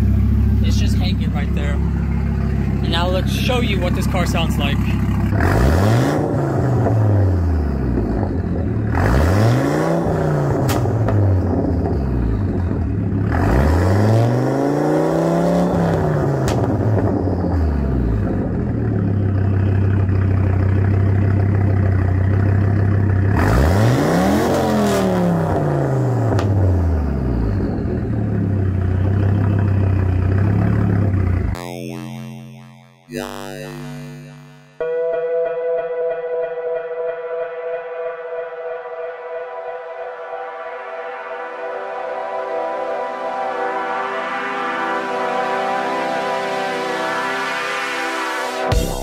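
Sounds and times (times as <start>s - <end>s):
car engine revving and idling: 0.0s - 31.8s, 40.3s - 49.0s.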